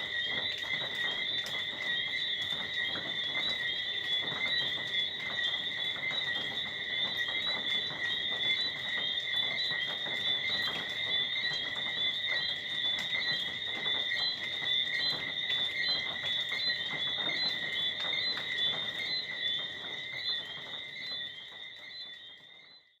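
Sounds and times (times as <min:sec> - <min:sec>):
crickets trilling: 0:00.0 - 0:22.8
frogs chirping: 0:00.0 - 0:23.0.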